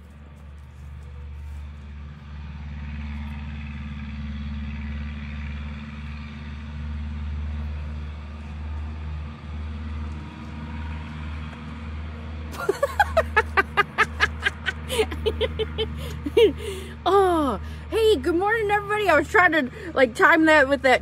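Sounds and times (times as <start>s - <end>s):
truck driving past: 0.0s - 21.0s.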